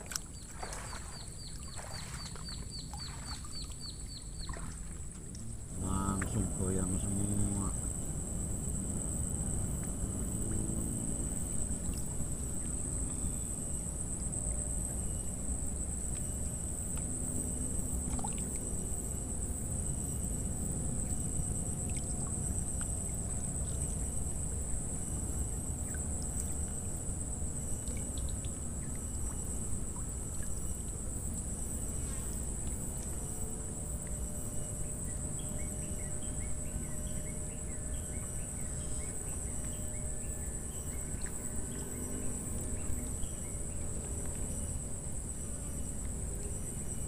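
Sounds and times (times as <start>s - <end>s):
faint chirps and ticks: 0.0s - 47.0s
insects chirring: 0.0s - 47.0s
low background rumble: 0.0s - 47.0s.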